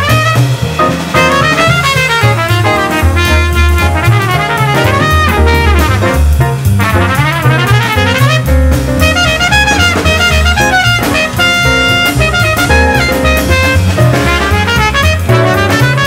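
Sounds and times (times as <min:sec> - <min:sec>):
background music with drums: 0:00.0 - 0:16.0.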